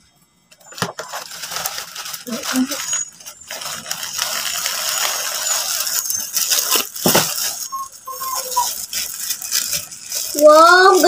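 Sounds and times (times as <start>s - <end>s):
plastic bags crinkling: 0.7s - 11.0s.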